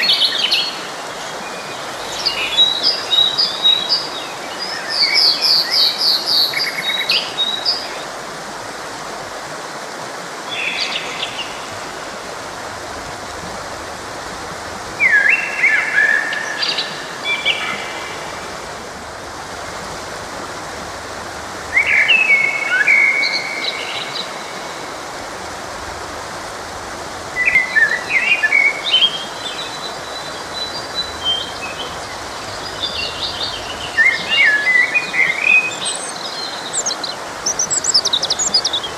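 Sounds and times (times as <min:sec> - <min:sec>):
songbirds chirping: 0:00.0 - 0:09.3, 0:10.4 - 0:38.9
forest stream rushing: 0:00.0 - 0:38.9.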